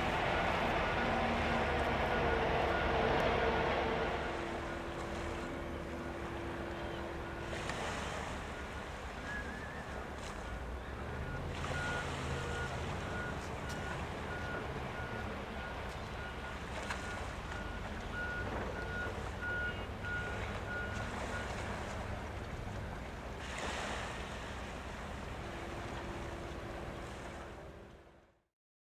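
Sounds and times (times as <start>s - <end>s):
surf: 0.0s - 28.1s
boat engine drone: 0.0s - 28.5s.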